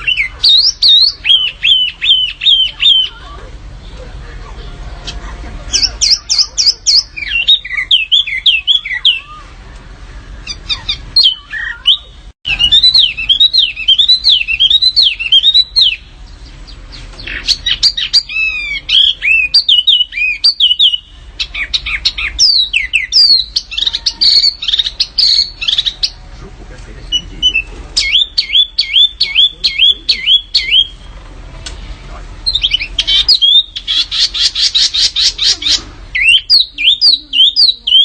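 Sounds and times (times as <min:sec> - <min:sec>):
songbird singing: 0:00.0 - 0:31.4, 0:32.4 - 0:38.0.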